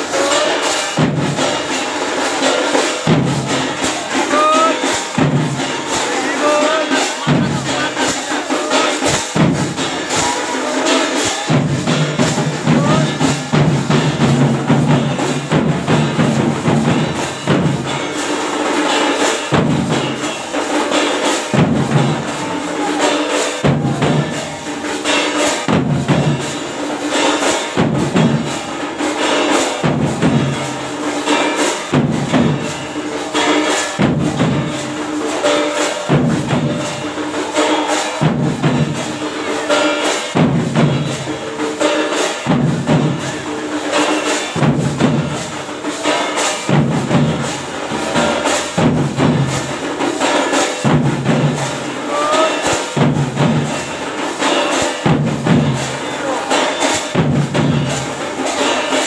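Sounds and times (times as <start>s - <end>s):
barrel drums beaten fast: 0.0s - 59.0s
jangling metal percussion: 0.0s - 59.0s.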